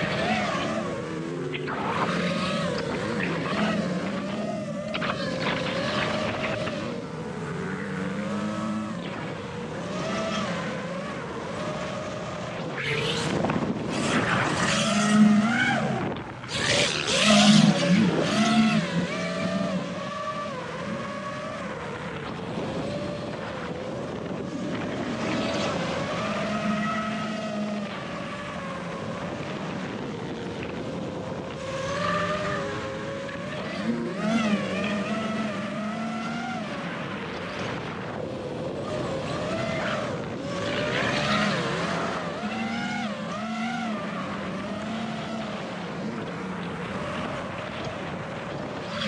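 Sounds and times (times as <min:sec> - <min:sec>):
drone motors whining: 0:00.0 - 0:49.0.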